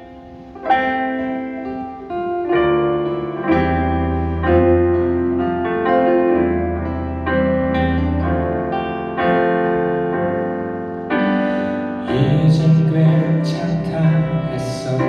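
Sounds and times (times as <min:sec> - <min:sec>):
held bass line: 0:00.0 - 0:15.0
piano chords: 0:00.0 - 0:15.0.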